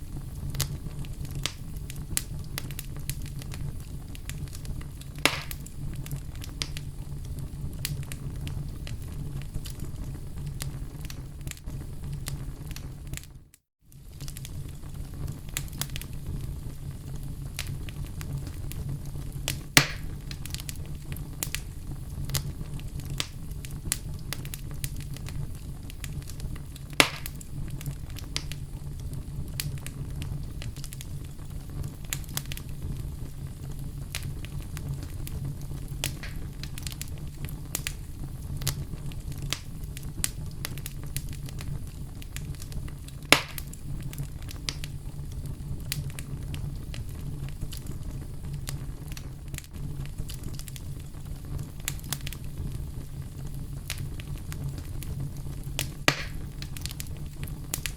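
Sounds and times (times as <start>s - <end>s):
burning logs crackling and popping: 0.0s - 57.9s
fire rumbling: 0.0s - 57.9s.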